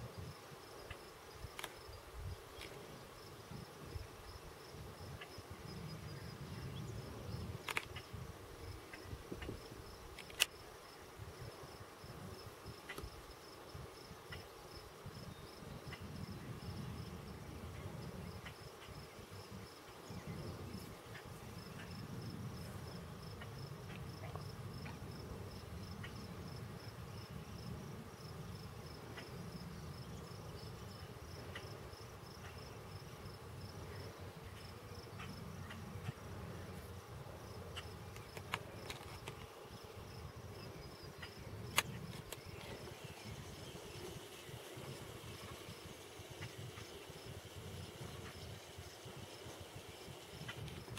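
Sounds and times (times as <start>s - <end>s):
insect chirping: 0.0s - 50.9s.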